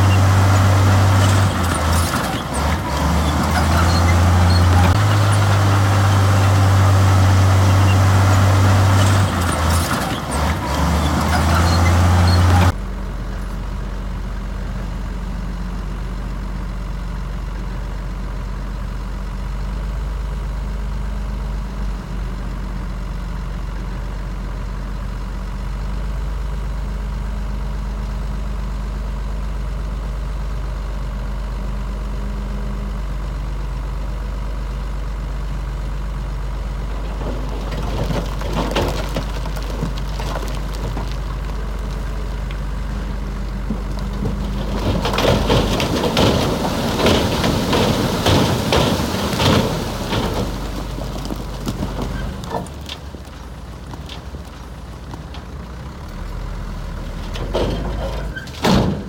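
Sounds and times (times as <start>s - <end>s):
heavy diesel machinery engine: 0.0s - 59.0s.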